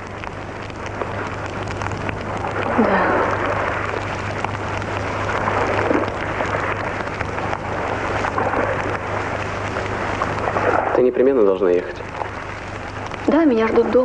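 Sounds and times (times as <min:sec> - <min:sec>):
campfire crackling and hissing: 0:00.0 - 0:14.0
low hum: 0:00.0 - 0:14.0.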